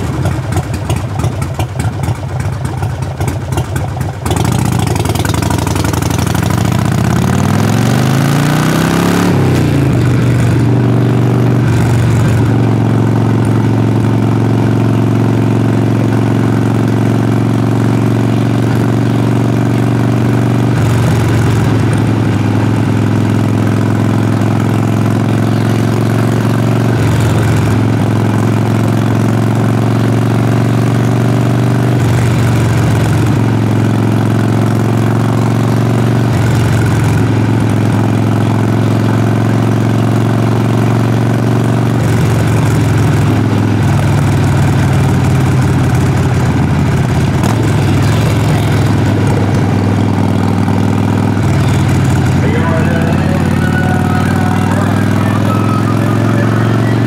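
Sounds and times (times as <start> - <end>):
motorcycle engine exhaust: 0.0 - 57.0.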